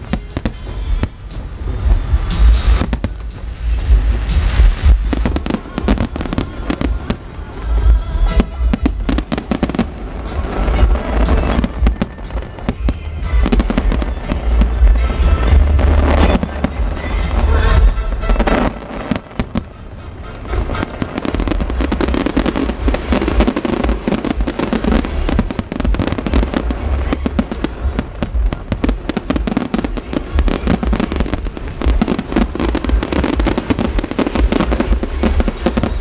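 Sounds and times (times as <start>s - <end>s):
fireworks bangs and crackling: 0.0s - 36.0s
low rumble: 0.7s - 36.0s.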